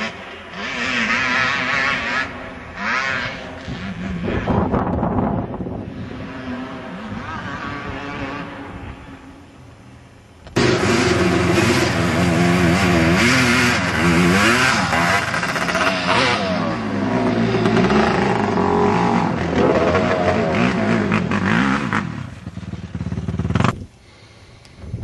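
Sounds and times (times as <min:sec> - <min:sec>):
atv engine revving hard: 0:00.0 - 0:09.0, 0:10.6 - 0:23.9.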